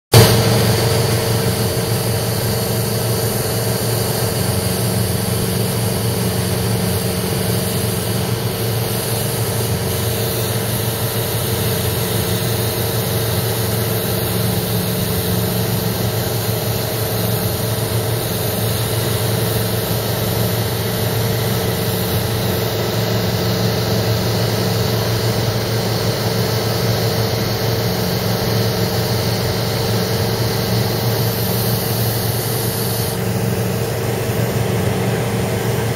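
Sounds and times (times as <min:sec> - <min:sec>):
aircraft engine and propeller drone: 0:00.1 - 0:35.9
air hiss: 0:00.2 - 0:35.7.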